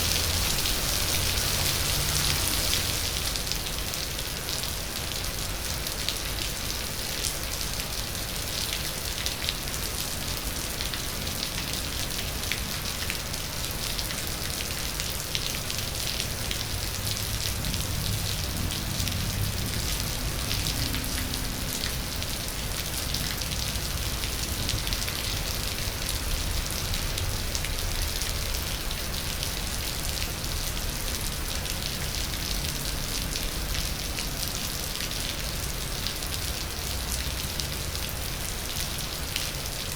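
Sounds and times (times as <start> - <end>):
rain falling: 0.0 - 39.9
raindrops pattering on surfaces: 0.0 - 39.9.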